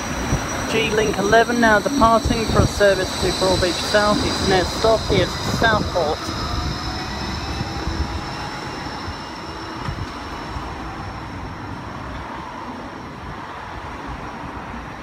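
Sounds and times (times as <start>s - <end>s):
tram electric whine: 0.0s - 15.0s.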